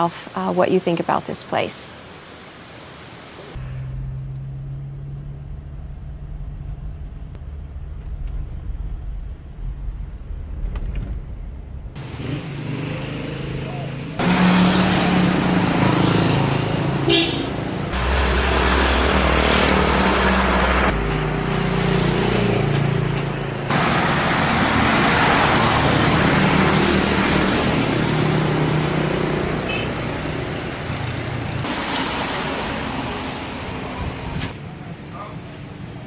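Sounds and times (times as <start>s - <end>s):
road noise: 0.0s - 36.0s
vehicles passing: 0.0s - 36.0s.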